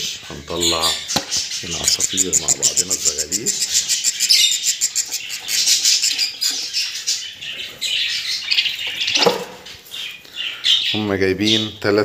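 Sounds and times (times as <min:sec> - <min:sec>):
nestlings cheeping raspily: 0:00.5 - 0:11.1.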